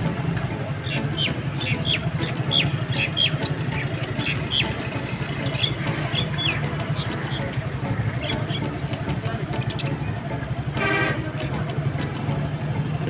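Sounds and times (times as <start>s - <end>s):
caged birds chirping: 0.0s - 12.8s
low engine-like rumble: 0.0s - 13.0s.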